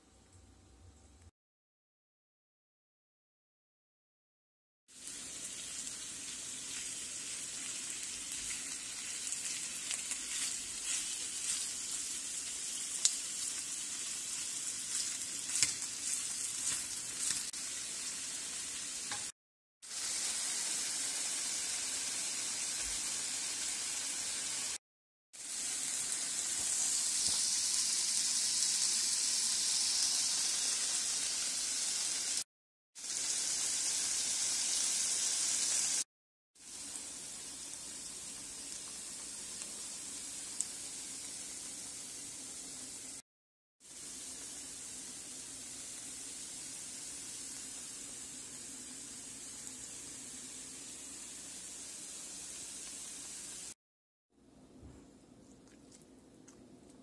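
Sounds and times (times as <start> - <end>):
chicken and onion sizzling in oil: 4.9 - 43.2, 43.8 - 53.8.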